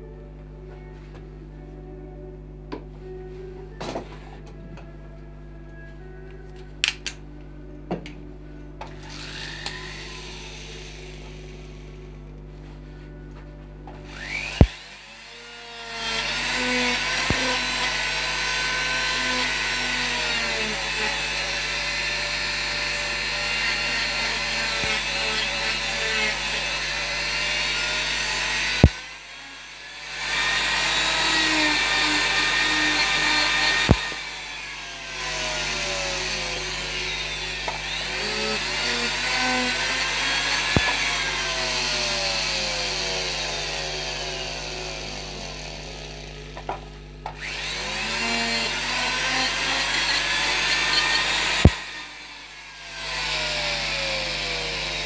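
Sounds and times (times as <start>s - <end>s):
power carving tool grinding wood: 8.8s - 12.8s, 14.0s - 55.0s.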